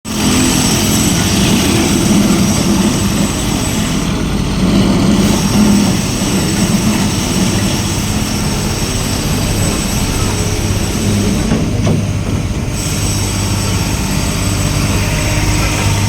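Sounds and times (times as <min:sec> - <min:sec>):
road roller engine running: 0:00.0 - 0:16.0.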